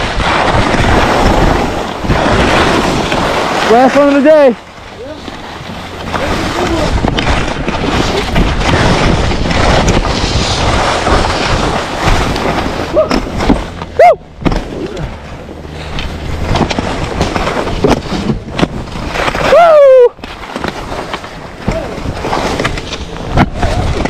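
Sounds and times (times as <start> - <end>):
wind on microphone: 0.0 - 3.7, 4.6 - 24.0
skis scraping on snow: 0.0 - 24.0.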